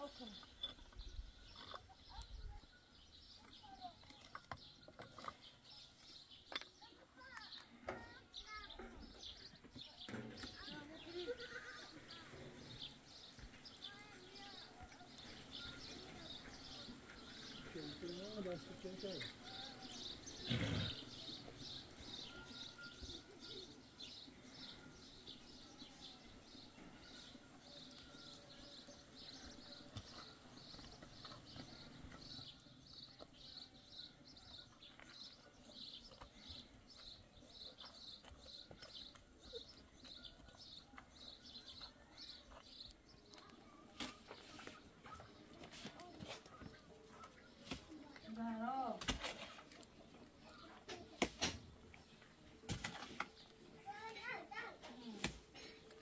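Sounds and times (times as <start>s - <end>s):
small bird chirping: 0.0s - 45.4s.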